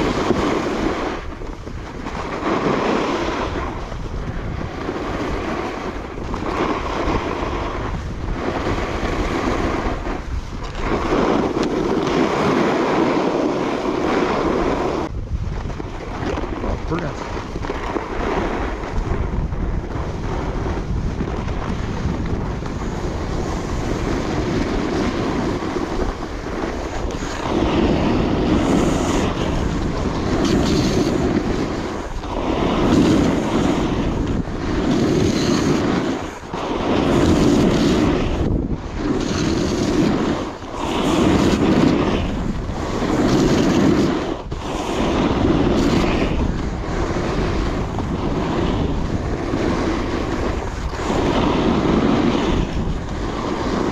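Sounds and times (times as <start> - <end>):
snowboard carving snow: 0.0 - 53.9
wind on microphone: 0.0 - 53.9.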